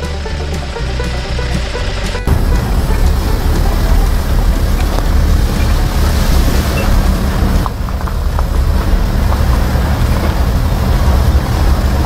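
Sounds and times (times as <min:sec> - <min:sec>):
vehicle rumbling on gravel track: 0:00.0 - 0:12.0.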